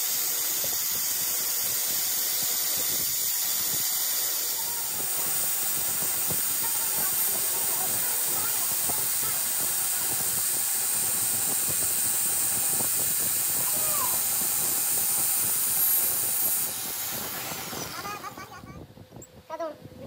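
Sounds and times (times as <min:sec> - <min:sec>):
angle grinder grinding metal: 0:00.0 - 0:18.7.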